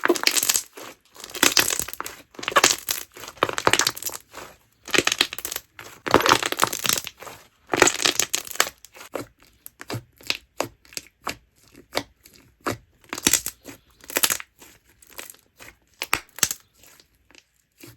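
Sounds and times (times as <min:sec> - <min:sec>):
slime popping and crackling: 0:00.0 - 0:17.9.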